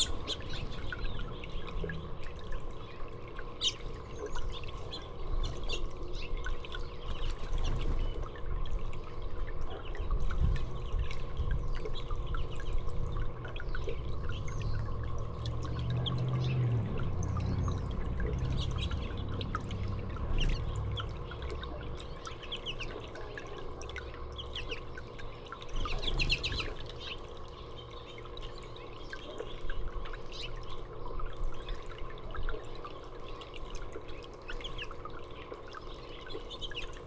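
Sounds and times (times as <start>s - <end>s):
songbirds chirping: 0.0s - 37.0s
trickling water: 0.0s - 37.0s.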